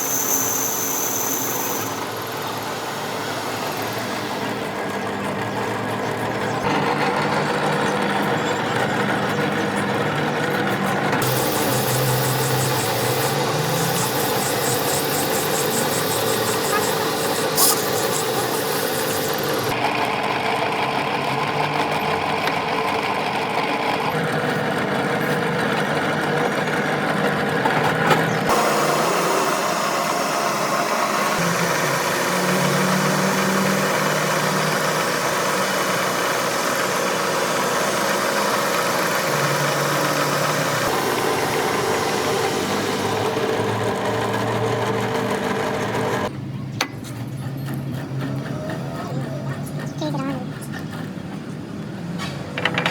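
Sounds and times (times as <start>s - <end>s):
engine running steadily: 0.0s - 52.8s.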